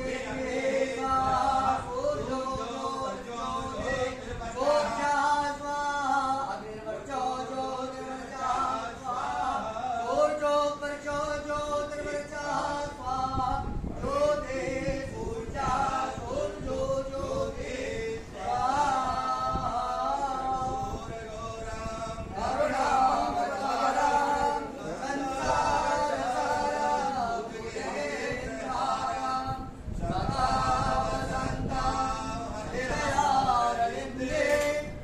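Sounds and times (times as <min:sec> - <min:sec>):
men singing a chant: 0:00.0 - 0:35.0.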